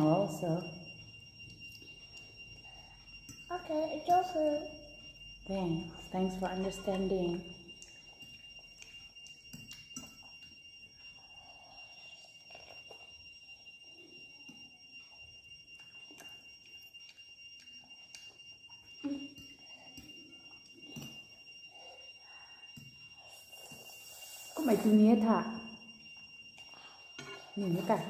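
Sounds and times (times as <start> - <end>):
faint high-pitched tone: 0.0 - 28.0.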